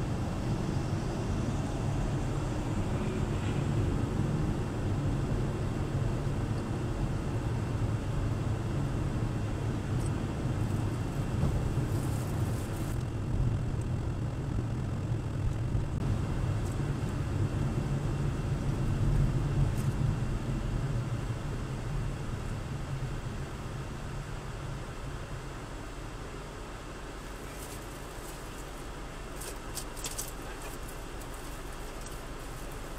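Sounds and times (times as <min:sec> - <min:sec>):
car road and engine noise: 0:00.0 - 0:32.9.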